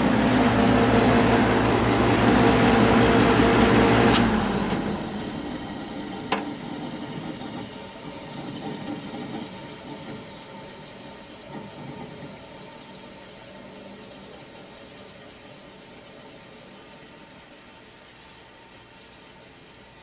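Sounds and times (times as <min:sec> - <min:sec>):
refrigerant flowing through coils: 0:00.0 - 0:20.0.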